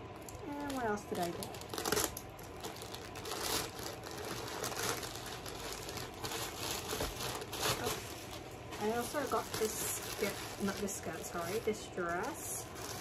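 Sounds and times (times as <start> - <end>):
plastic packaging crinkling: 0.1 - 13.0.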